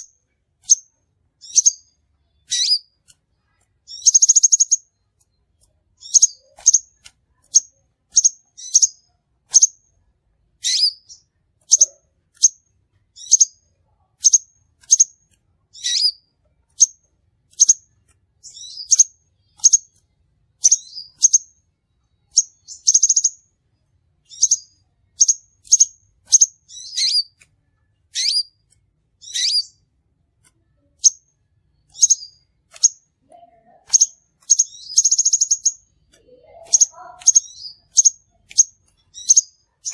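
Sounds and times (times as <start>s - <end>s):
bird chirping and trilling: 0.0s - 3.1s, 3.8s - 9.9s, 10.6s - 23.5s, 24.2s - 29.9s, 30.6s - 39.9s.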